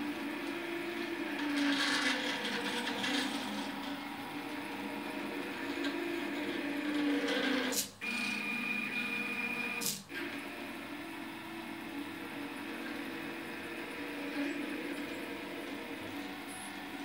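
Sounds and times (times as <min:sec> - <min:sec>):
stepper motor whine: 0:00.0 - 0:17.0.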